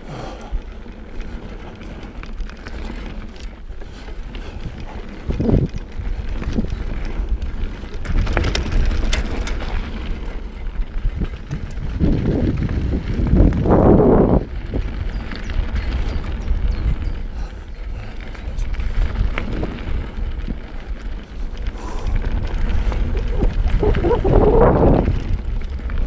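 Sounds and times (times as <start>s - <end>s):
bike rattling and clacking: 0.0s - 26.0s
bike tyres rumbling over gravel: 0.0s - 26.0s
wind buffeting microphone: 0.0s - 26.0s.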